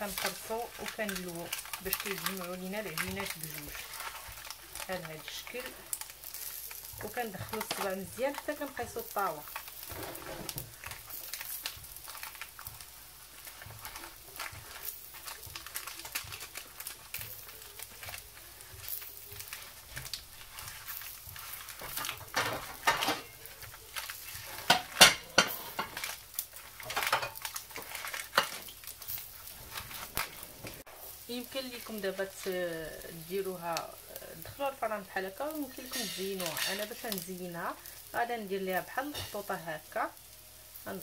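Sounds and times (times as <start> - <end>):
parchment paper crinkling: 0.0 - 33.2.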